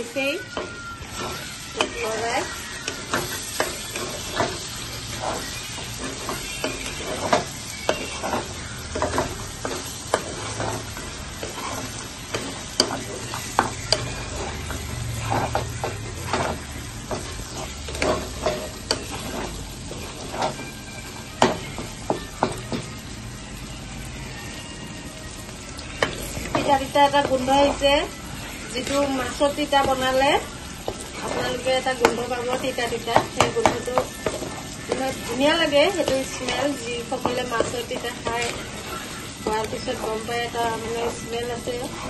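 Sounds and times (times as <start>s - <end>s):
food sizzling in oil: 0.0s - 42.0s
metal spoon scraping pan: 0.4s - 22.8s, 26.0s - 42.0s.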